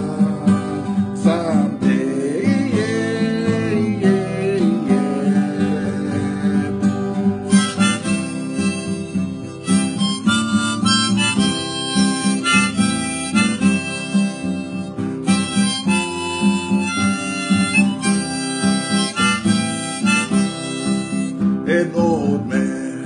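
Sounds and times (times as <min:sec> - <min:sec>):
harmonica melody: 0:00.0 - 0:23.0
strummed acoustic guitar: 0:00.0 - 0:23.0.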